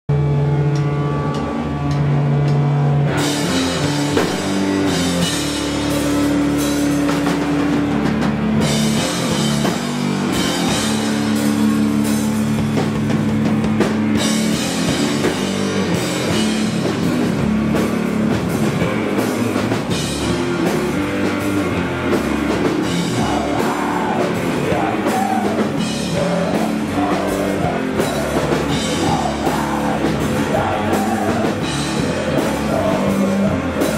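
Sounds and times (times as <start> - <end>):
distorted guitar and bass: 0.1 - 33.9
drum kit with cymbals: 0.1 - 33.9.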